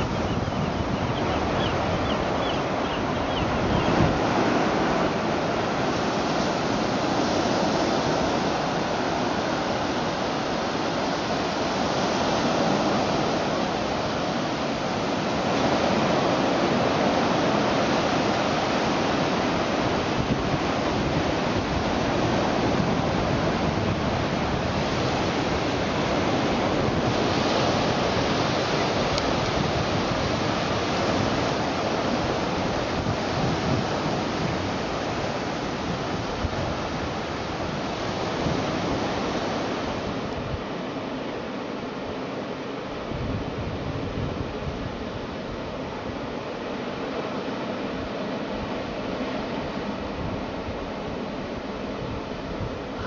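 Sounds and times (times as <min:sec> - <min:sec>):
wind on microphone: 0:00.0 - 0:40.8, 0:42.9 - 0:46.5, 0:47.9 - 0:53.0
ocean surf washing onto beach: 0:00.0 - 0:53.0.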